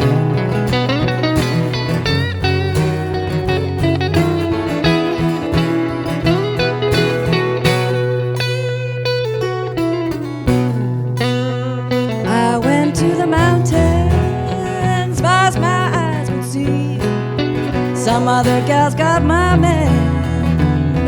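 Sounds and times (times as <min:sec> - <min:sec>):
low bass notes: 0:00.0 - 0:18.1, 0:18.7 - 0:21.0
lead guitar bending notes: 0:00.0 - 0:21.0.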